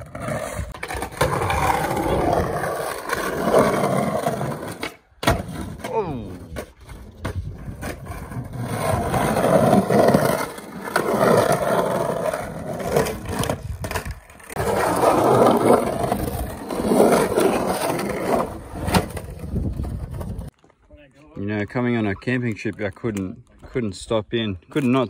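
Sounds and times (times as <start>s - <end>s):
skateboard wheels rolling on concrete: 0.0s - 25.0s.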